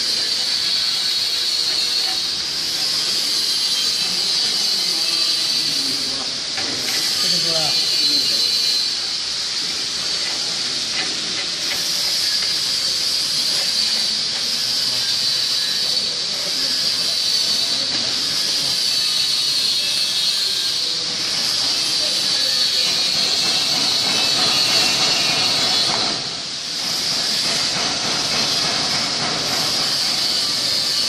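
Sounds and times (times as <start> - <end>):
factory background hiss: 0.0 - 31.0.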